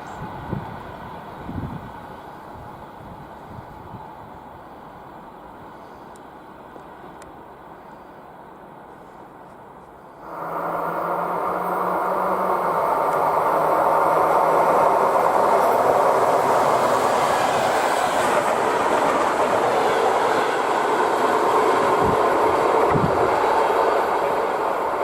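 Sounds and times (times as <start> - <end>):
electric train passing at speed: 0.0 - 25.0.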